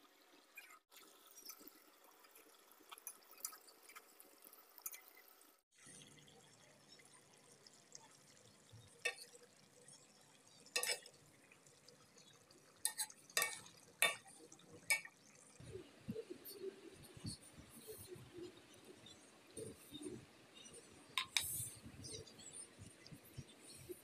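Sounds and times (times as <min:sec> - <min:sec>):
curry simmering with pops: 0:00.0 - 0:24.0.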